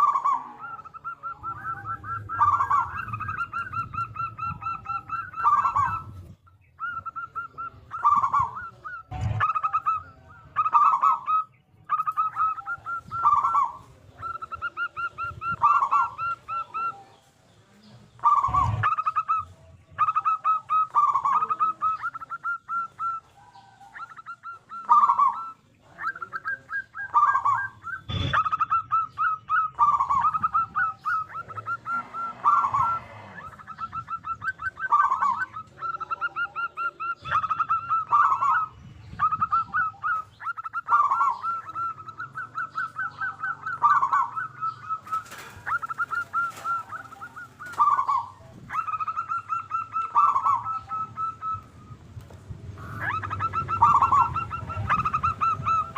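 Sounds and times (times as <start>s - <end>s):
dove cooing song: 0.0s - 55.9s.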